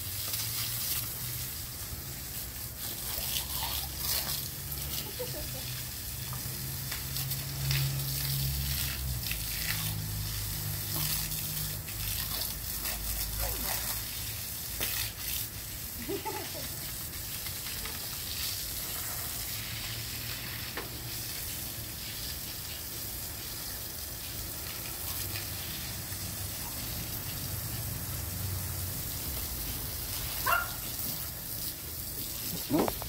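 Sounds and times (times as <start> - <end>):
hose spraying water on concrete: 0.0 - 33.0.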